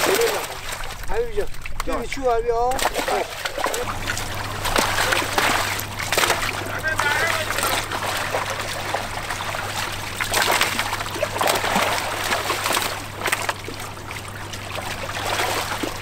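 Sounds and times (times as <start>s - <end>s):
fish splashing in shallow water: 0.0s - 16.0s.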